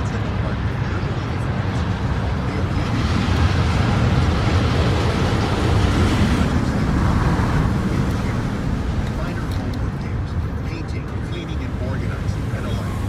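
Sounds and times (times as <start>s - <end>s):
vehicle rumble with hiss: 0.0s - 13.0s.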